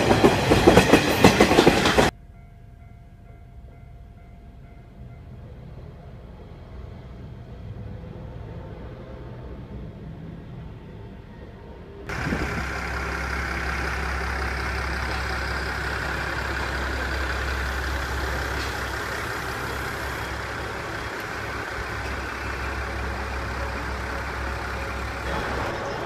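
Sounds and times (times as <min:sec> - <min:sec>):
train diesel engines humming: 0:00.0 - 0:26.0
traffic: 0:04.9 - 0:26.0.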